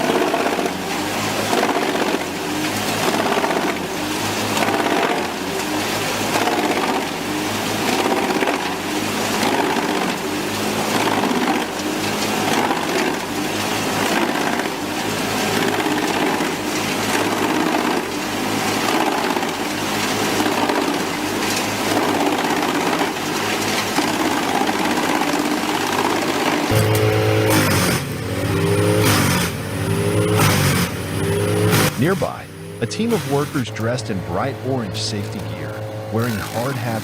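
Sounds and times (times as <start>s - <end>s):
wood chipper grinding: 0.0s - 37.0s.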